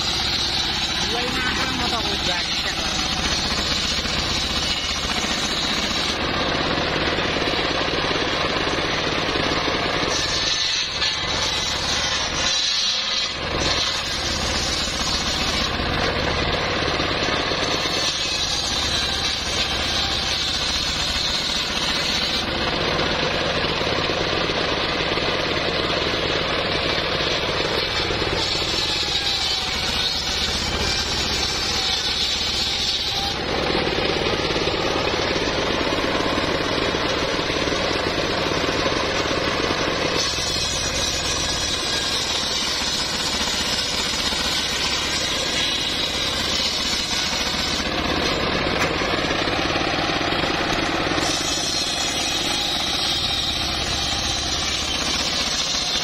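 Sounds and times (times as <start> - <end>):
circular saw engine drone: 0.0 - 12.6, 13.2 - 56.0
saw blade cutting wood: 0.0 - 56.0.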